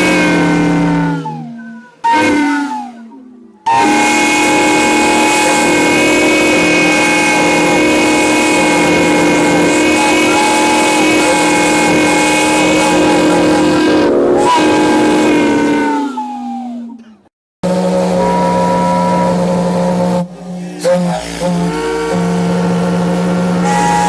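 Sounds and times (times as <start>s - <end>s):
steam whistles blowing chord: 0.0s - 17.0s, 17.6s - 24.0s.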